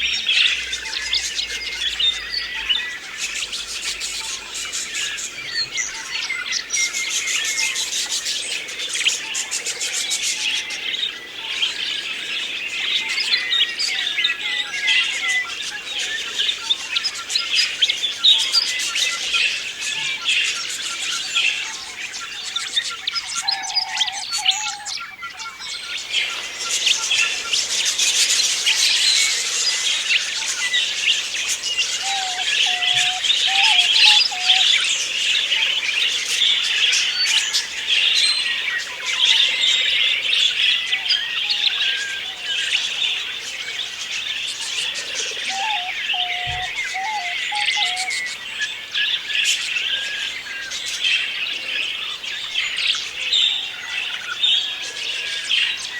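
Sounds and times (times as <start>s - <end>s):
budgerigars chattering: 0.0s - 55.8s.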